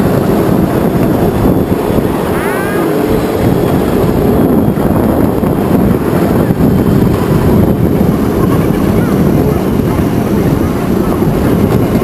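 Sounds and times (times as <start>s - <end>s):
miniature tram rumbling on track: 0.0s - 12.0s
wind buffeting microphone: 0.0s - 12.0s.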